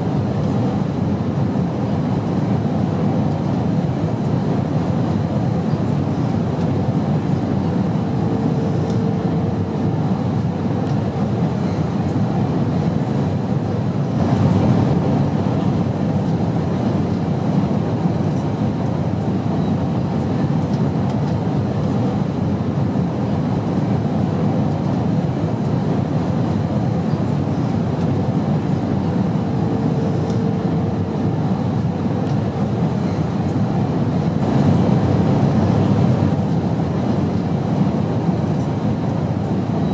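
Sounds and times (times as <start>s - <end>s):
airplane rumble: 0.0s - 39.9s.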